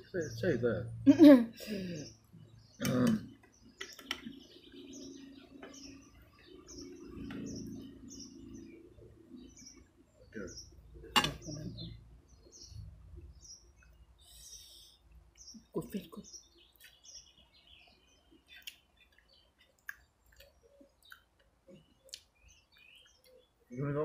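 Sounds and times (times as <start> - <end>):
small bird chirping: 0.0 - 24.0.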